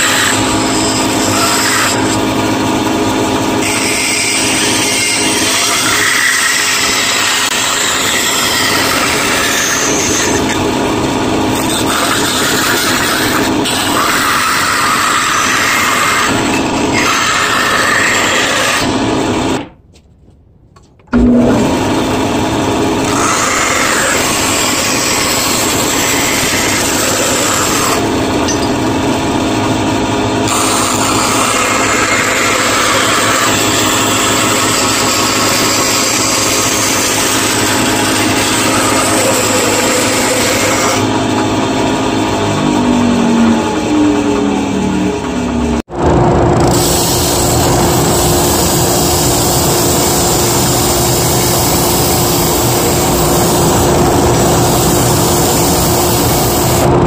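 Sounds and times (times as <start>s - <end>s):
band saw cutting wood: 0.0s - 19.6s, 21.2s - 57.0s.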